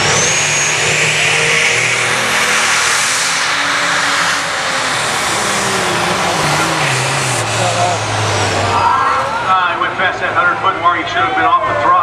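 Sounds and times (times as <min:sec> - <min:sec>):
high whine rising in pitch: 0:00.0 - 0:09.7
tractor diesel engine running hard: 0:00.0 - 0:11.2.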